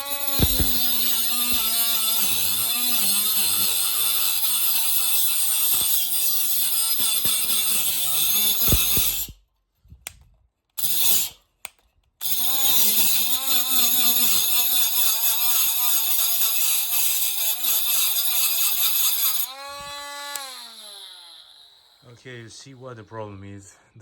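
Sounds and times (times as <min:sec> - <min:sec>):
angle grinder cutting steel: 0:00.0 - 0:09.4, 0:10.8 - 0:11.4, 0:12.2 - 0:22.4.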